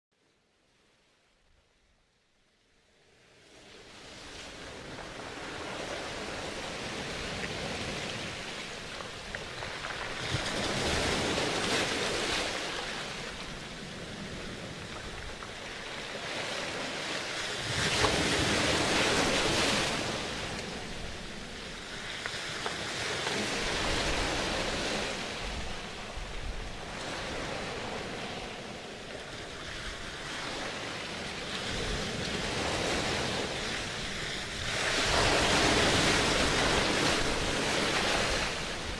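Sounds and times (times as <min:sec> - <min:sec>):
rushing surf-like noise: 0:04.0 - 0:38.9.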